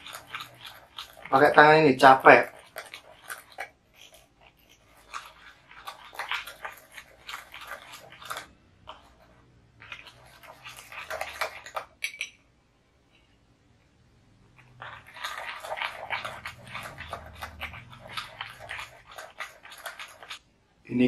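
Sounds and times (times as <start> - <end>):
spoon scraping ceramic bowl: 0.0 - 12.4, 14.5 - 20.4.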